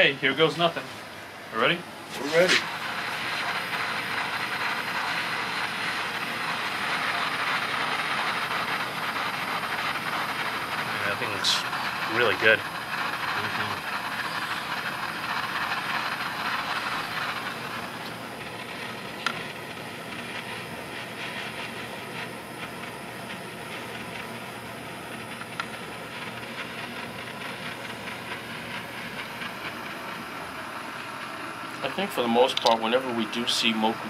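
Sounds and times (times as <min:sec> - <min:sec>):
gas torch flame hissing: 0:00.0 - 0:34.0.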